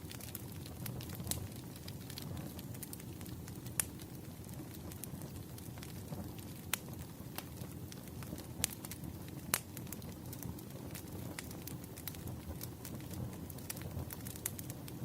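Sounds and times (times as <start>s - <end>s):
campfire flames rumbling: 0.0s - 15.0s
fire crackling and popping: 0.0s - 15.0s.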